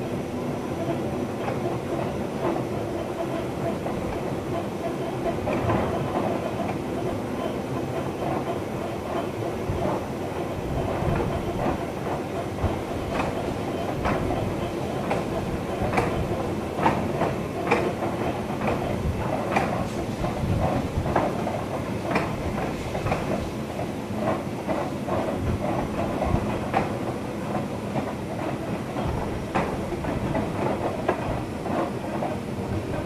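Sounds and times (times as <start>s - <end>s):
train rumble: 0.0s - 33.0s
train wheels clicking over rail joints: 0.1s - 33.0s.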